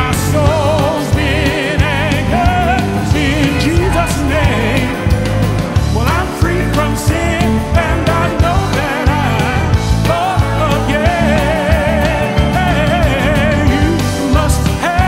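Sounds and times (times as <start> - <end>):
backing vocalists: 0.0 - 15.0
band with steady bass line: 0.0 - 15.0
man singing lead: 0.0 - 15.0.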